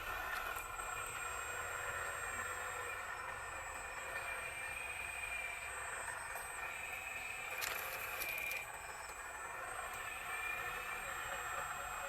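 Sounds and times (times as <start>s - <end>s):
toy excavator motors whining: 0.0s - 11.9s.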